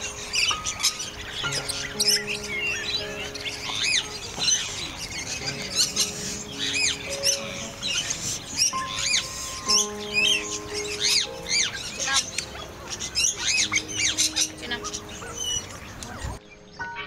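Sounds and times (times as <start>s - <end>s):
background music with held notes: 0.0s - 17.0s
birds chirping: 0.0s - 17.0s.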